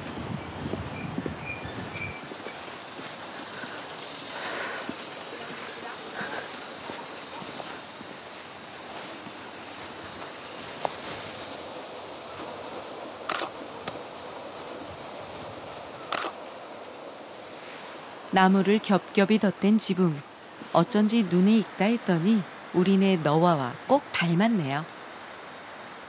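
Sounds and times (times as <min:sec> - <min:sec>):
faint hiss with high shimmer: 0:01.6 - 0:23.0.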